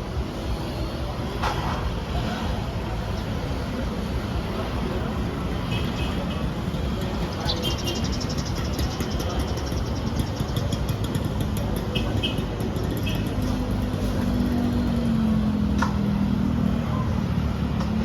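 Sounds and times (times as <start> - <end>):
street traffic rumbling: 0.0 - 18.0.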